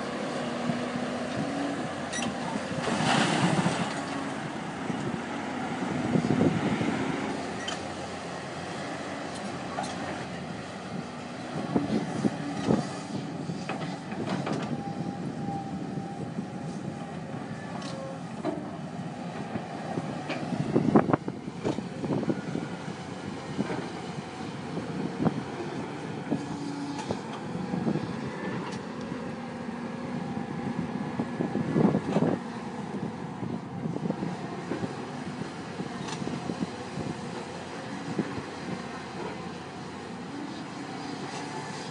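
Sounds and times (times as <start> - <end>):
excavator running: 0.0 - 41.9.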